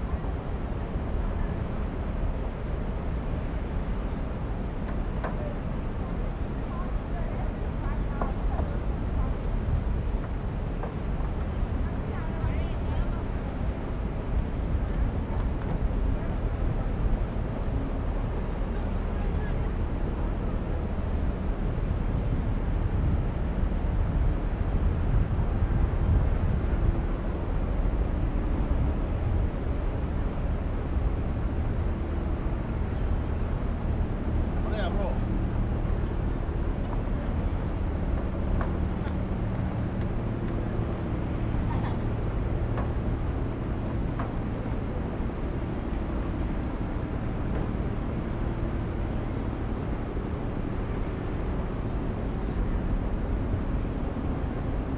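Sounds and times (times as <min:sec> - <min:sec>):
faint machine-like hum: 0:00.0 - 0:54.9
outdoor background noise: 0:00.0 - 0:54.9
wind rumbling on microphone: 0:00.0 - 0:54.9.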